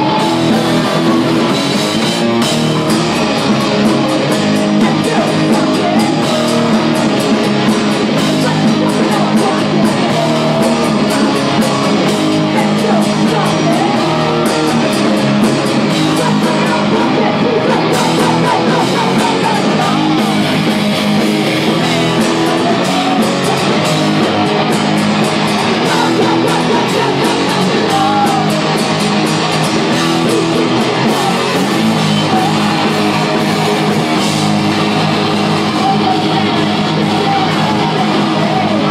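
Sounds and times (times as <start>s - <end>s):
electric guitar: 0.0s - 38.9s
rock band playing live: 0.0s - 38.9s.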